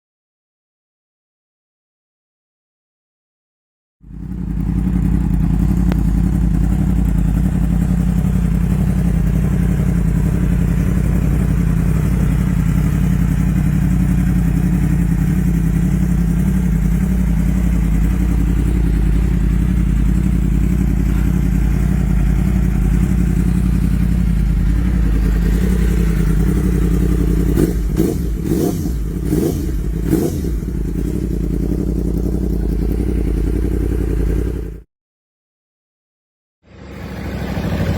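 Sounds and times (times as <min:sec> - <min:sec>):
motorcycle engine idling and revving: 0:04.0 - 0:34.9, 0:36.7 - 0:37.9.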